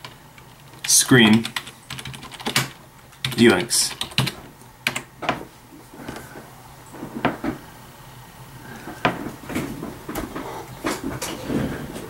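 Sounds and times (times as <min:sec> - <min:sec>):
faint room noise: 0:00.0 - 0:12.0.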